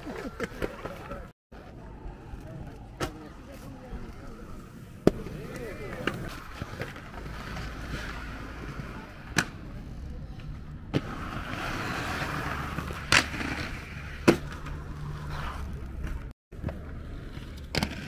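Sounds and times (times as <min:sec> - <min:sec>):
skate wheels rolling on concrete: 0:00.0 - 0:18.0.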